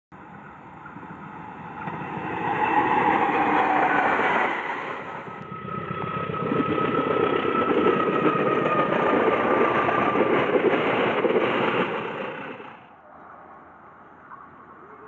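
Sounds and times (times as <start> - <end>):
high train whine: 0.1 - 13.1
train rumbling: 0.2 - 12.8.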